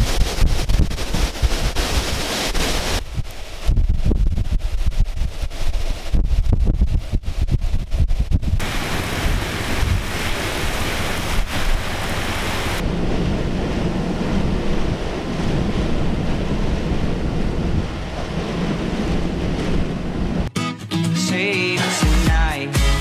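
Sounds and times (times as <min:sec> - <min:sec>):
storm wind gusting on microphone: 0:00.0 - 0:20.5.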